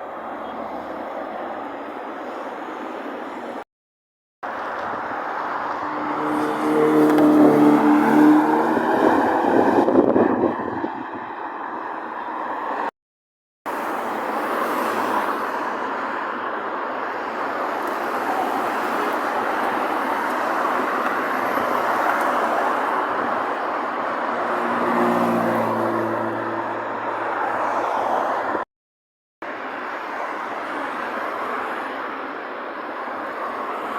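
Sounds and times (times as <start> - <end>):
cars driving on road: 0.0 - 3.7, 4.4 - 13.0, 13.7 - 28.7, 29.4 - 33.9.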